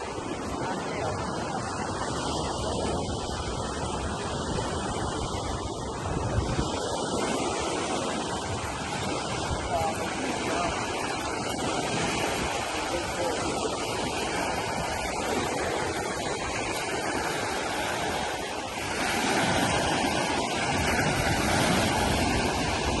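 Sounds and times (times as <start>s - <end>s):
surf washing on shore: 0.0s - 23.0s
wind buffeting microphone: 0.0s - 23.0s.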